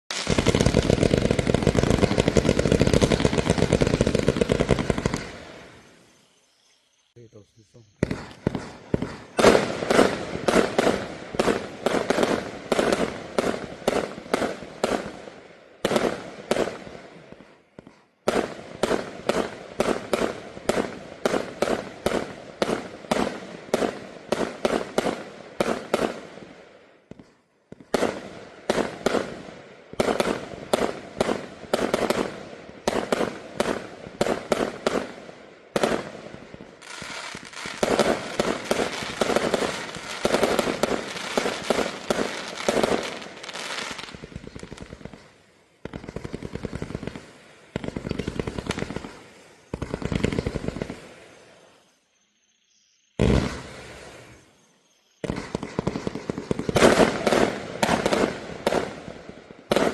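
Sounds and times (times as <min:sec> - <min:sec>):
fireworks cake firing shots: 0:00.1 - 0:05.9, 0:07.9 - 0:51.4, 0:53.2 - 0:54.4, 0:55.2 - 0:59.9.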